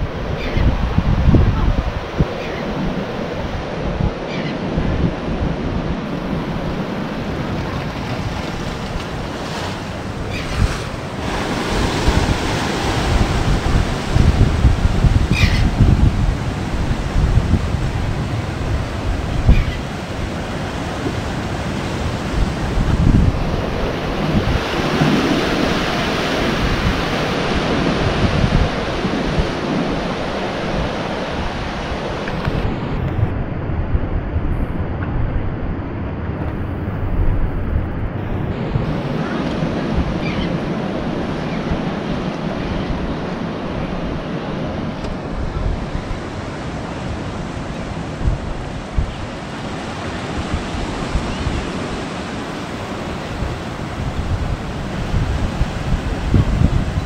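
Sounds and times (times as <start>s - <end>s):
ocean surf rolling in: 0.0s - 57.0s
wind on microphone: 0.0s - 57.0s.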